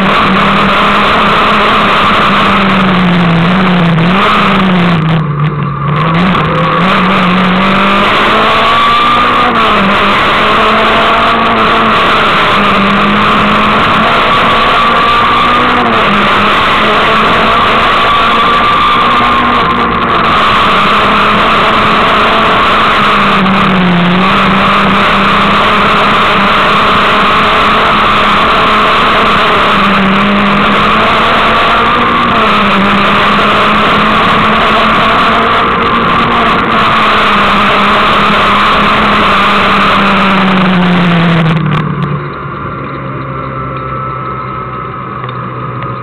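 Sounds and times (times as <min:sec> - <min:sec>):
rally car engine at high revs: 0:00.0 - 0:46.0.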